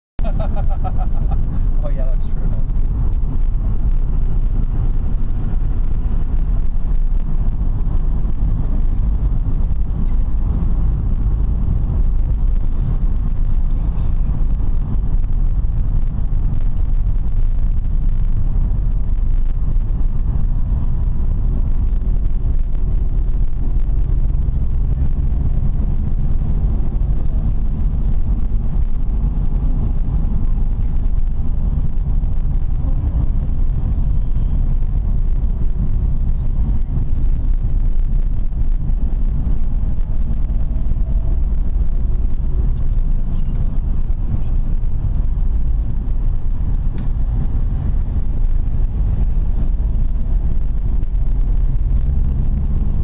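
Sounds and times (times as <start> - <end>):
road noise: 0.2 - 53.0
vehicle engine rumble: 0.2 - 53.0.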